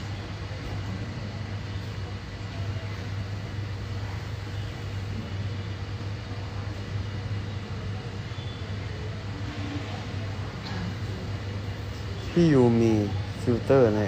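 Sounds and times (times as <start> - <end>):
airport background noise: 0.0 - 14.0
steady low hum: 0.0 - 14.0.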